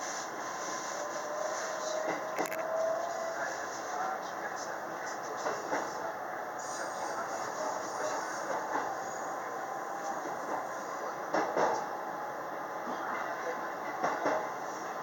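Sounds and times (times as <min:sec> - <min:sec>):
train track noise: 0:00.0 - 0:15.0.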